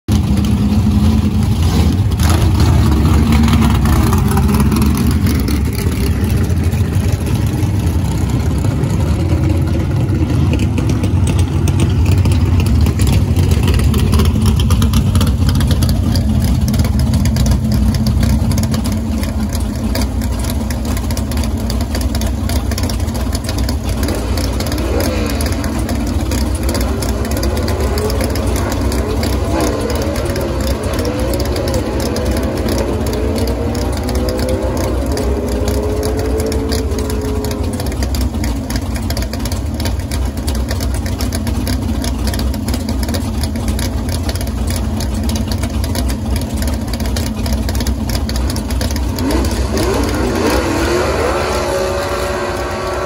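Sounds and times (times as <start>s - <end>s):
drag-race engines idling: 0.1s - 53.0s.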